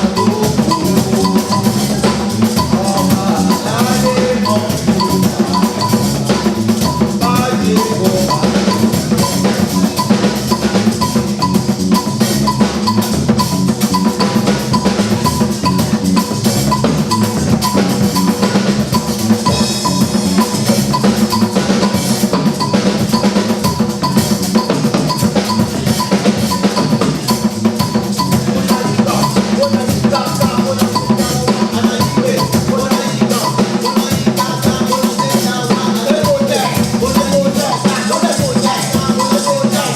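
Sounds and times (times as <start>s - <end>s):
drums playing continuous rhythm: 0.0s - 39.9s.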